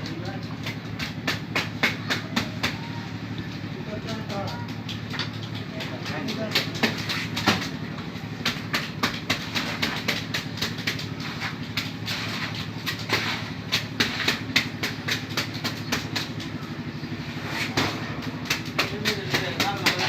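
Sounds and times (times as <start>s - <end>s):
sharp clacks and knocks: 0.0s - 3.0s, 3.9s - 20.0s
machinery engine running: 0.0s - 20.0s.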